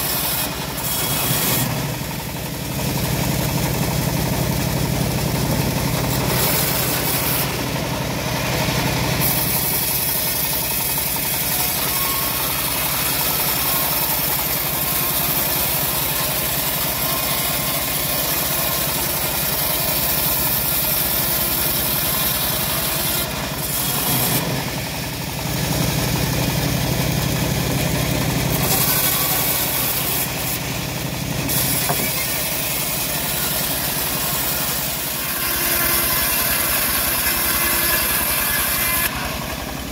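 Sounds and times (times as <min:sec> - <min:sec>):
saw blade cutting wood: 0:00.0 - 0:39.9
sawmill engine drone: 0:00.0 - 0:39.9.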